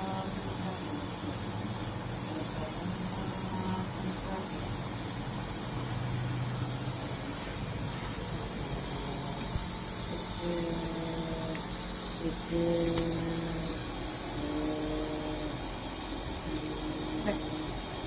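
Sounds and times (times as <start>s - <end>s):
nebulizer hissing: 0.0s - 18.0s.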